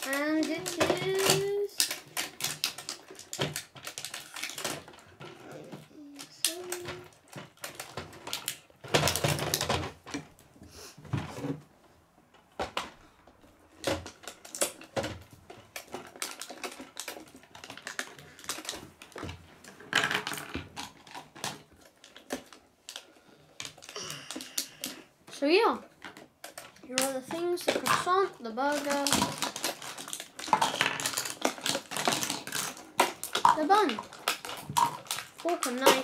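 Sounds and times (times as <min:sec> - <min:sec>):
plastic toy pieces clicking: 0:00.0 - 0:10.2, 0:13.8 - 0:36.0.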